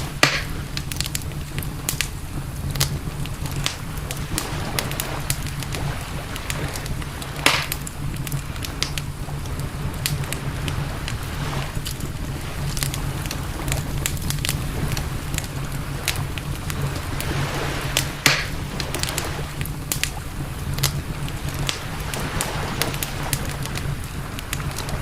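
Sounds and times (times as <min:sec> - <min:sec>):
campfire crackling and snapping: 0:00.0 - 0:25.0
steady low rumble: 0:00.0 - 0:25.0.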